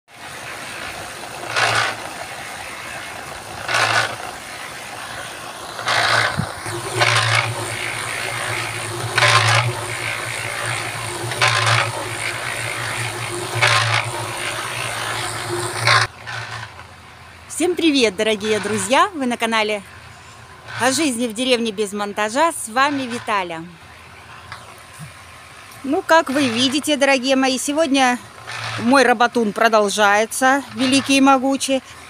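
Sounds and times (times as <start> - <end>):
concrete mixer motor hum: 0.1 - 32.0.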